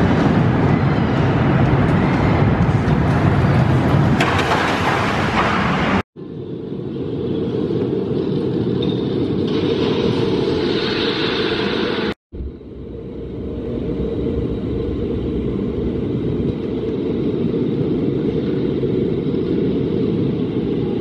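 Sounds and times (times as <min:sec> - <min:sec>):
roller coaster rumbling on track: 0:00.0 - 0:11.2, 0:12.4 - 0:21.0.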